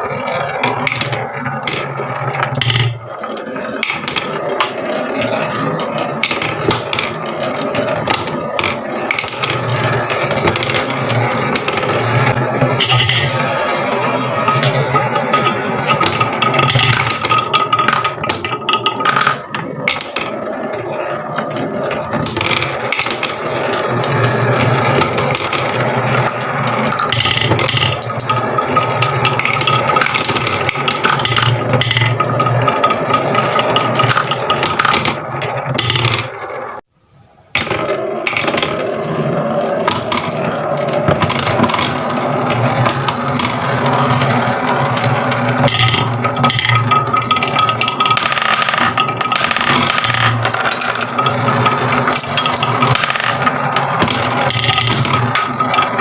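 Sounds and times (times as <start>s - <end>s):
marbles rolling on wooden run: 0.0s - 36.8s, 37.6s - 56.0s.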